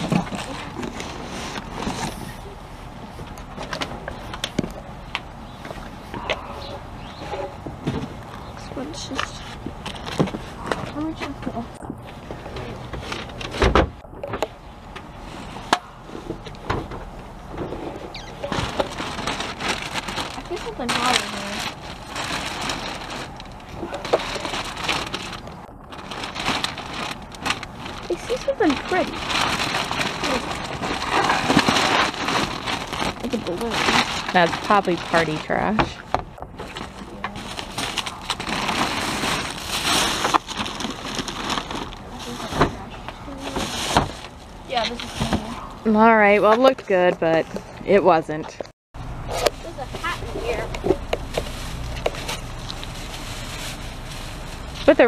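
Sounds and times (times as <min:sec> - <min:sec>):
cardboard and bottles rustling: 0:00.0 - 0:48.6, 0:49.3 - 0:55.0.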